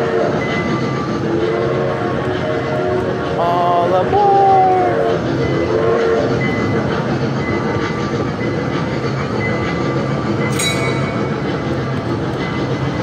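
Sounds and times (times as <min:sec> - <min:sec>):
kiddie ride train rumbling: 0:00.0 - 0:13.0.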